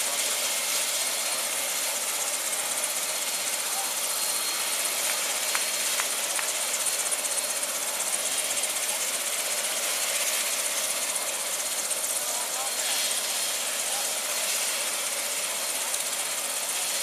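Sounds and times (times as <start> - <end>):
helicopter engine and rotor noise: 0.0 - 17.0.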